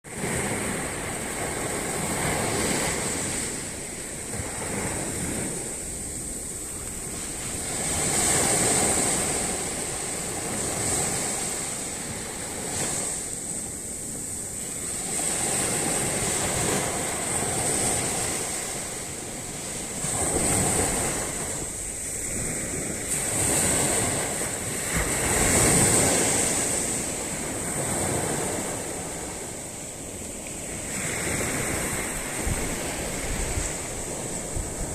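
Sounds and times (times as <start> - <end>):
ocean waves breaking on beach: 0.0 - 34.9
steady high-pitched hiss: 0.1 - 34.9.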